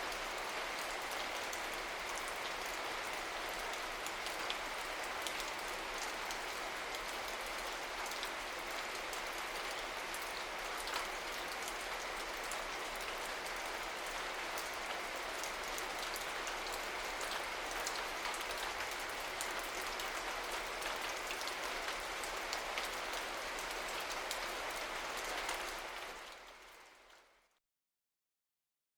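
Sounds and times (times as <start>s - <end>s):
steady rain: 0.0s - 27.5s.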